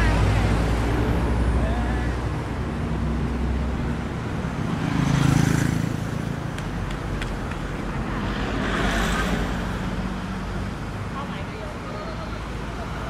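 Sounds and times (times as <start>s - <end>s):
cars passing by: 0.0s - 13.0s.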